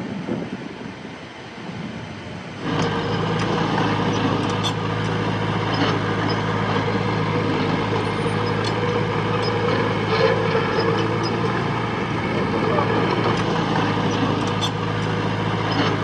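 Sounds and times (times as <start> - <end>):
heavy diesel engine running: 2.0 - 16.0.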